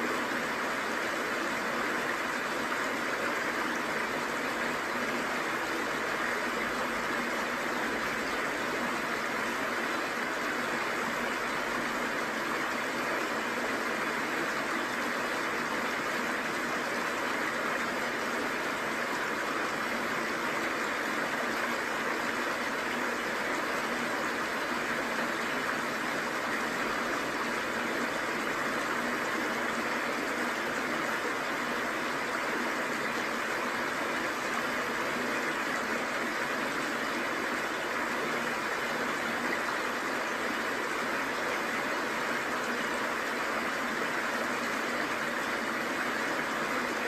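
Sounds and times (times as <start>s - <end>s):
small waterfall rushing: 0.0s - 47.0s
stream running over rocks: 0.0s - 47.0s.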